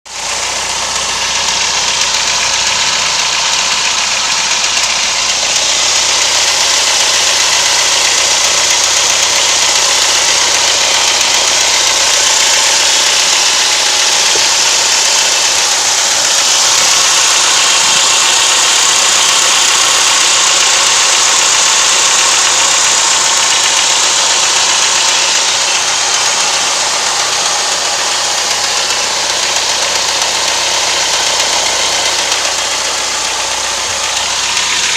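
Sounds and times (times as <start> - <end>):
car engine idling with knock: 0.0 - 34.9.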